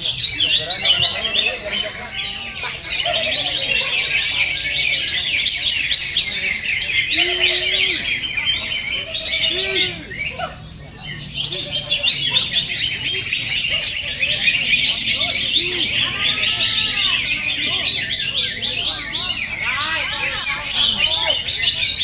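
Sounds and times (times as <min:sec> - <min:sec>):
birds singing rapid chatter: 0:00.0 - 0:22.0.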